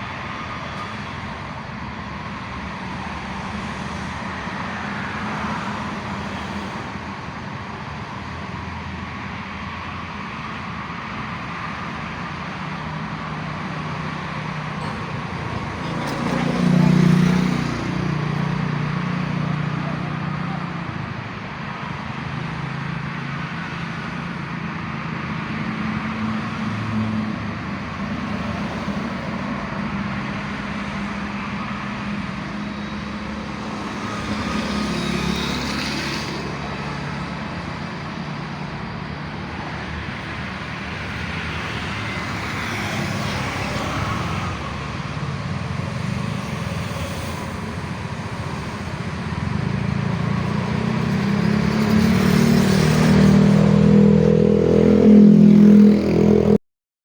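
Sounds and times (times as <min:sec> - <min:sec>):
road traffic noise: 0:00.0 - 0:56.6.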